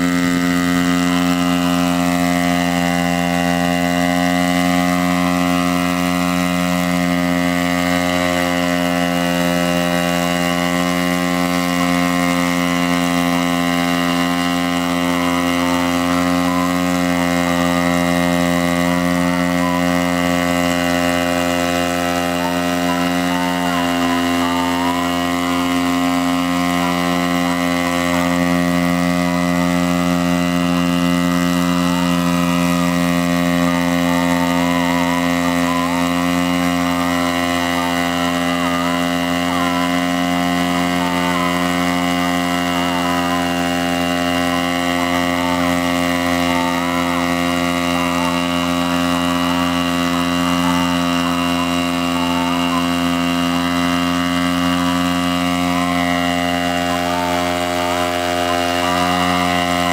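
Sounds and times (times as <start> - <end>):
petrol engine running steadily: 0.0 - 59.9
propellers droning: 0.0 - 59.9.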